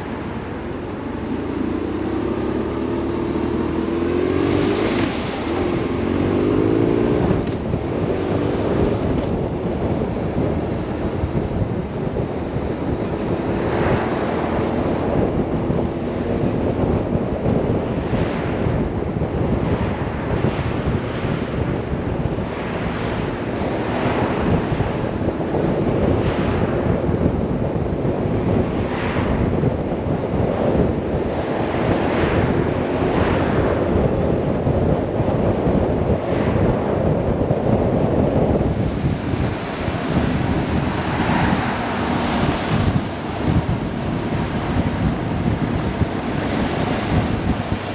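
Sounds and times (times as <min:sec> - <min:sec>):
motorcycle engine running: 0:00.0 - 0:47.9
passing traffic whooshes: 0:00.0 - 0:47.9
wind rushing over microphone: 0:00.0 - 0:47.9.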